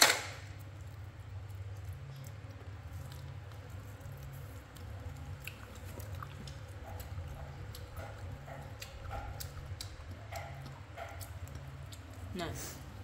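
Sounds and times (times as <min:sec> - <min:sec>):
monkey chewing wet smacks: 0:00.1 - 0:13.0.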